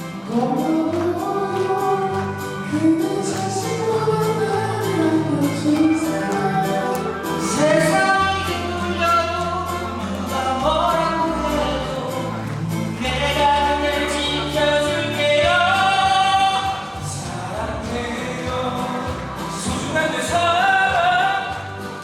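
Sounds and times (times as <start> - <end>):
person singing: 0.0 - 22.0
sustained bass notes: 0.0 - 22.0.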